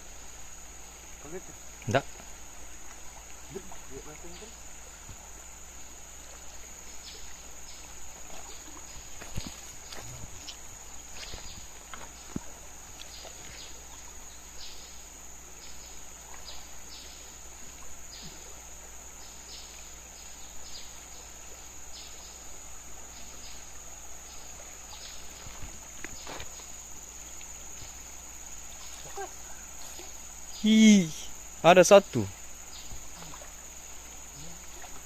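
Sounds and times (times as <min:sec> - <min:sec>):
high-pitched insect buzz: 0:00.0 - 0:35.0
river flowing: 0:00.0 - 0:35.0
short insect chirps: 0:00.0 - 0:35.0.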